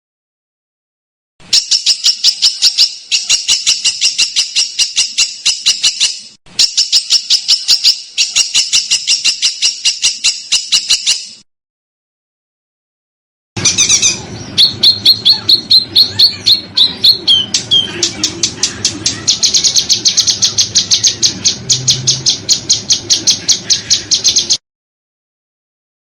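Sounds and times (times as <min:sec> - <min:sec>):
songbird harsh rapid notes: 0:01.4 - 0:11.4, 0:13.6 - 0:24.6.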